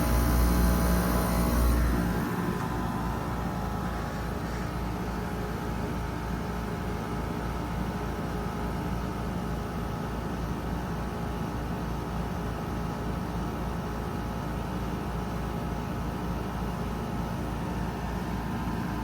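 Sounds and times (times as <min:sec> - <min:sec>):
heat pump running: 0:00.0 - 0:19.0.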